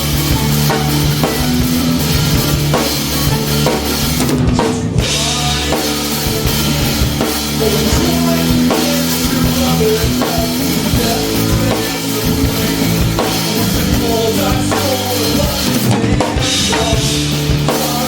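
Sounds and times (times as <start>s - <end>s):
bass guitar: 0.0s - 18.0s
drum kit: 0.0s - 18.0s
electric guitar: 0.0s - 18.0s.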